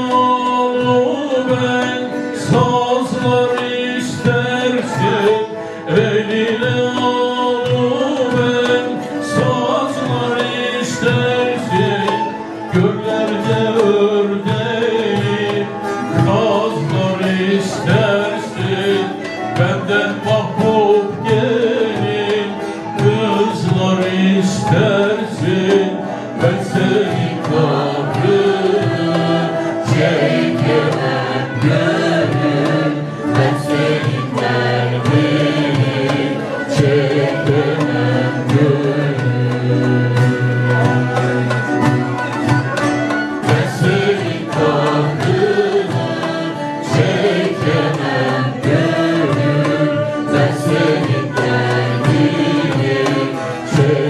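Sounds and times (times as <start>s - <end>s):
man singing: 0.0s - 54.0s
saz strummed rhythmically: 0.0s - 54.0s.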